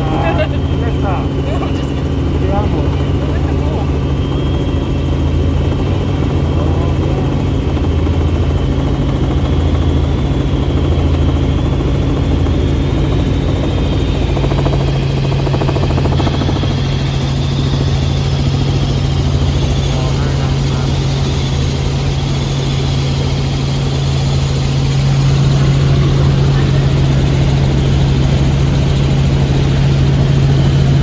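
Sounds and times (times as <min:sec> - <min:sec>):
faint high whine: 0:00.0 - 0:31.0
helicopter rotor and engine drone: 0:00.0 - 0:31.0.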